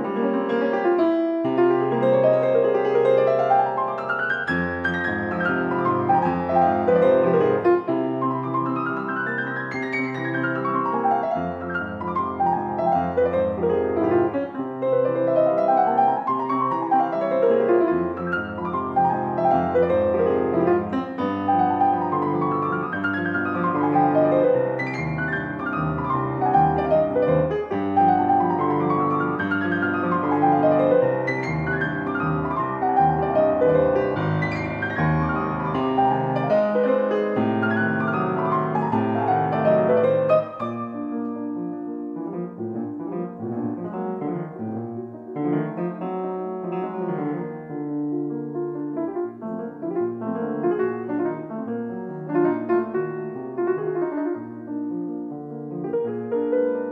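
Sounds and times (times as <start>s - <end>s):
solo piano music: 0.0s - 56.9s.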